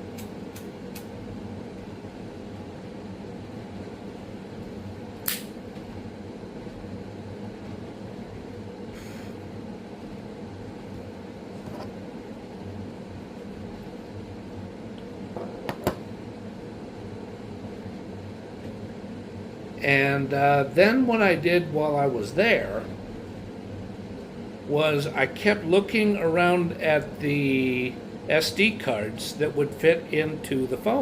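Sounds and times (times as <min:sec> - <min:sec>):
steady room hum: 0:00.0 - 0:31.0.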